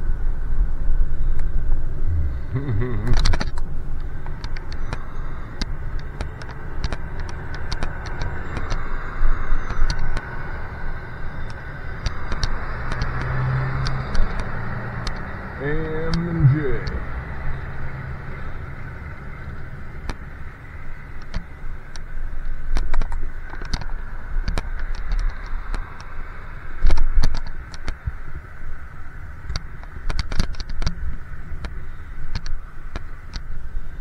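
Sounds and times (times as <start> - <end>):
wind and bicycle tyres rushing: 3.3 - 15.6, 17.3 - 34.0.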